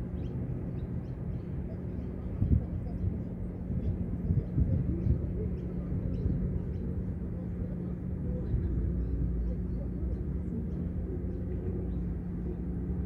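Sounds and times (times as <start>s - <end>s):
constant low hum: 0.0s - 13.0s
low outdoor rumble: 0.0s - 13.0s.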